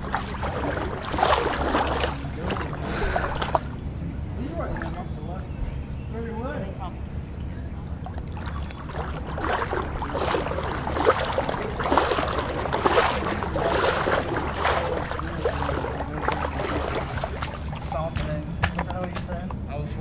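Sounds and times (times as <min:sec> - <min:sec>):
floodwater splashing and sloshing: 0:00.0 - 0:03.9, 0:04.5 - 0:05.2, 0:07.9 - 0:19.4
low steady rumble: 0:00.0 - 0:20.0.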